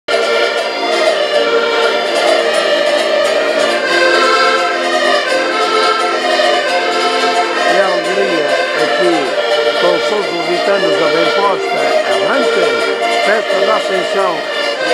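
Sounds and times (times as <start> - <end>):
button accordions playing chords: 0.1 - 14.9
stringed instrument strummed: 0.1 - 14.9.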